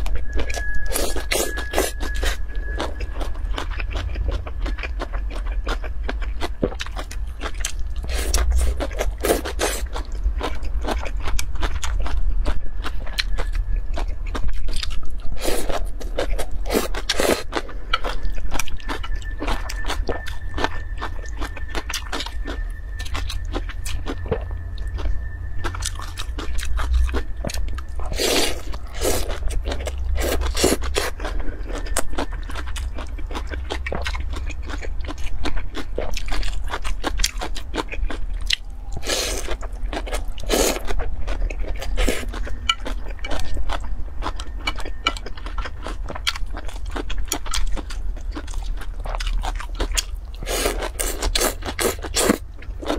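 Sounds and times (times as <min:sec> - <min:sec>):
slurping and chewing noodles: 0:00.0 - 0:52.9.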